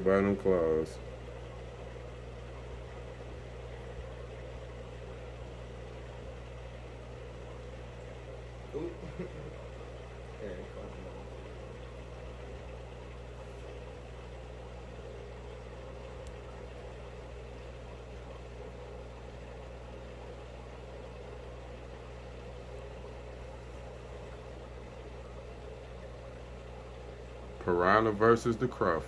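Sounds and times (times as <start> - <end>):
aquarium pump humming: 0.0 - 29.0.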